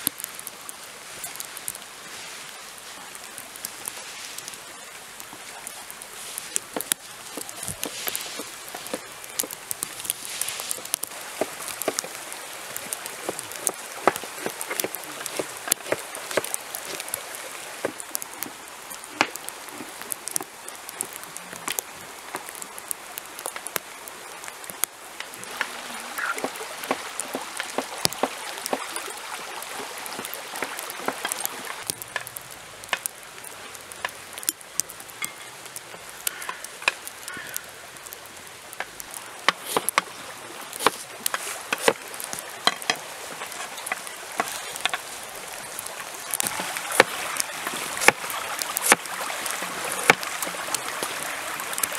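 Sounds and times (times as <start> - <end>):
steady background hiss: 0.0 - 51.9.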